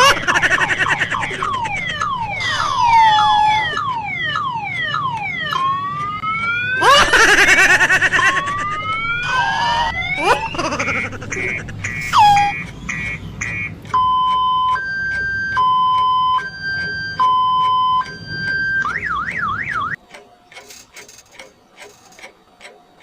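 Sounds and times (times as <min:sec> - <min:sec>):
car alarm siren: 0:00.0 - 0:20.0.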